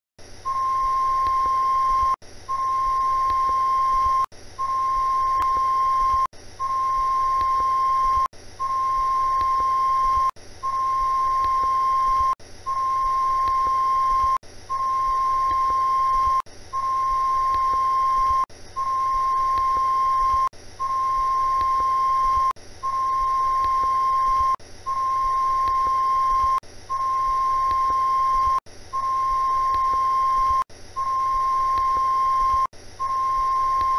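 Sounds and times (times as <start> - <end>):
steady single-pitched beep: 0.5 - 33.9.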